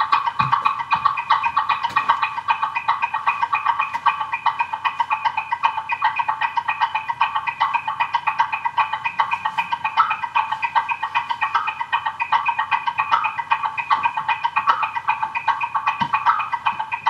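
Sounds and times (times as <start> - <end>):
bird-like chirping chatter: 0.0 - 17.0.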